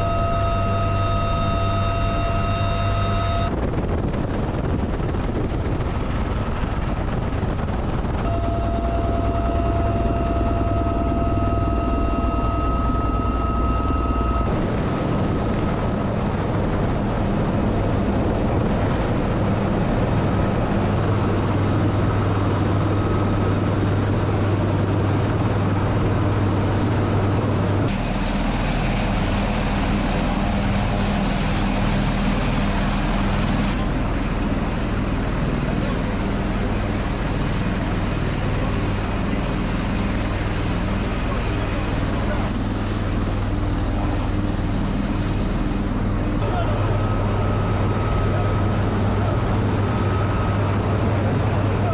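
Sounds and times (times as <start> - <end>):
helicopter engines and rotors: 0.0 - 51.9.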